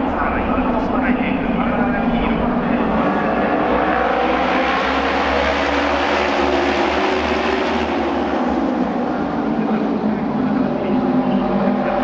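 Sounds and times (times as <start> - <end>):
racing motorcycle engines droning: 0.0 - 12.0.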